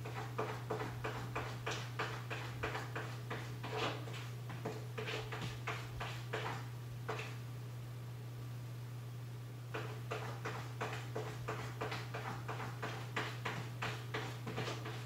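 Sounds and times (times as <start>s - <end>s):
cat scratching in litter: 0.0s - 7.4s, 9.8s - 15.0s.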